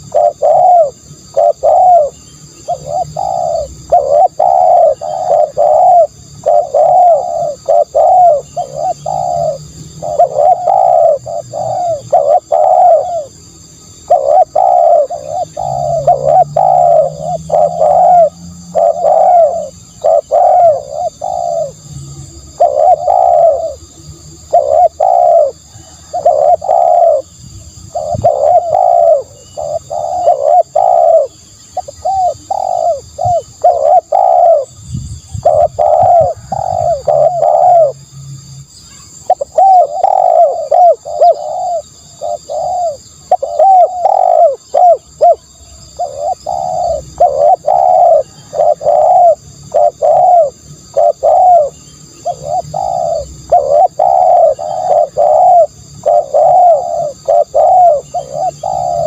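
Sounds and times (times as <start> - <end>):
dove cooing: 0.0 - 38.0, 38.9 - 59.0.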